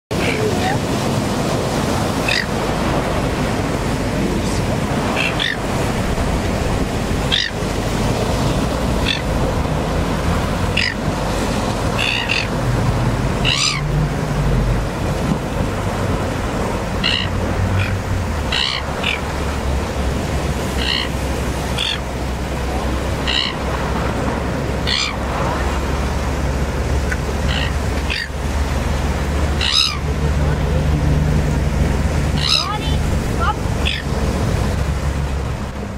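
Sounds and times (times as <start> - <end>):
gulls calling: 0.1 - 35.9
surf breaking on rocks: 0.1 - 35.9.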